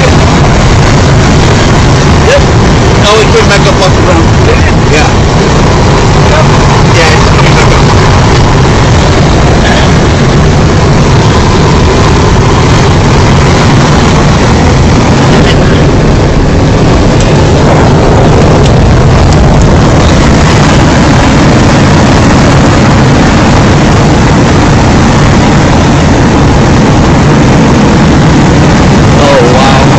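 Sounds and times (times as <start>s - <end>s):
strong wind on microphone: 0.0s - 29.9s.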